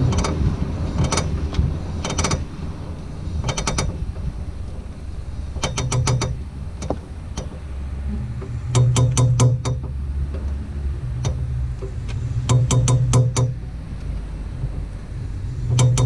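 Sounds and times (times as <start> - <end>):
car rumble: 0.0 - 16.0
driveshaft joint clicking: 0.0 - 16.0.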